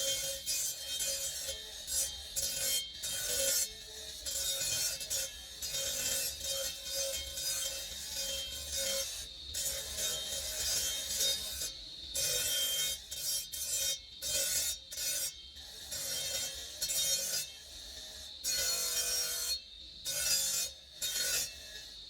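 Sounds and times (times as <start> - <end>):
filing stone scraping strokes: 0.0 - 22.0.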